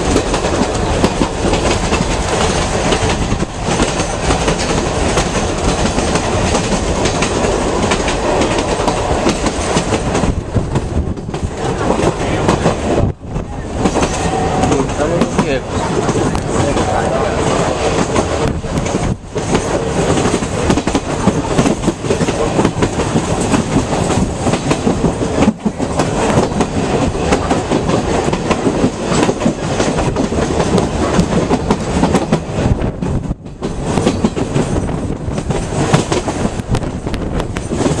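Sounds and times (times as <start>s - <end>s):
train rumble and rattle: 0.0s - 38.0s
wheels clicking over rail joints: 0.0s - 38.0s.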